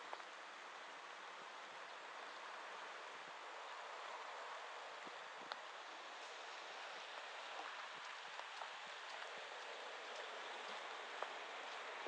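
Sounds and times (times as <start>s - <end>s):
steady rain falling: 0.0s - 12.0s
ticks of raindrops: 0.0s - 12.0s.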